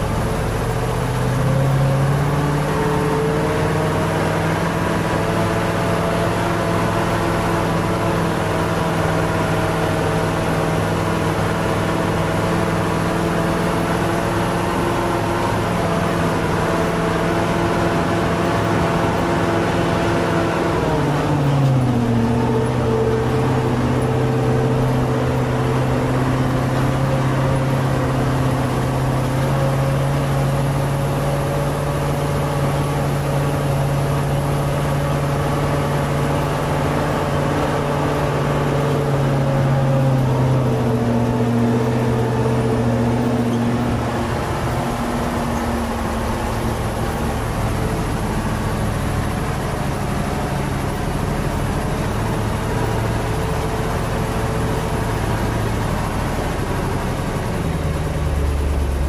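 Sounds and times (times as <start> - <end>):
diesel truck engine running: 0.0 - 59.0
road noise: 0.0 - 59.0.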